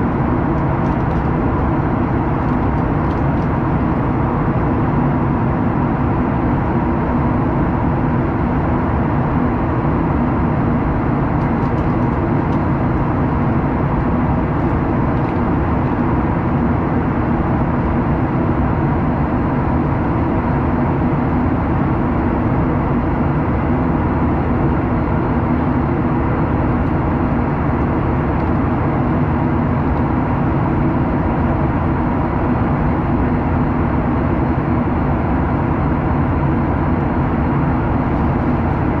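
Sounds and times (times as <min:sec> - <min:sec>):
jet engine drone in cabin: 0:00.0 - 0:39.0.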